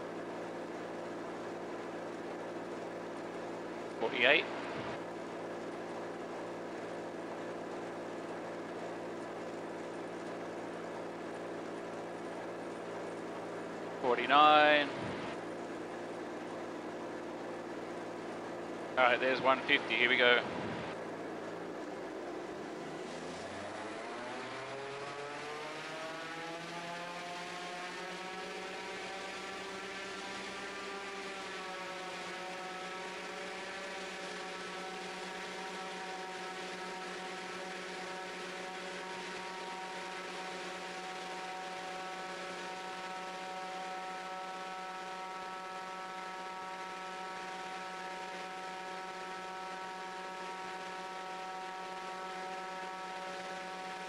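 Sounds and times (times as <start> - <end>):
aircraft engine and propeller run-up: 0.0 - 54.0.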